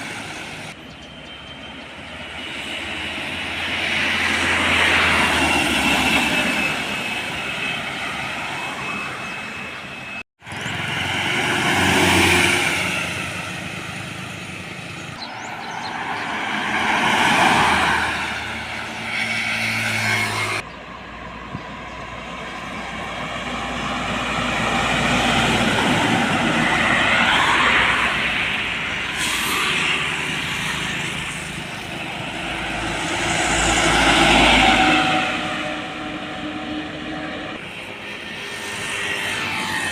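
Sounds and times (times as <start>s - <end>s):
heavy trucks passing: 0.0s - 39.9s.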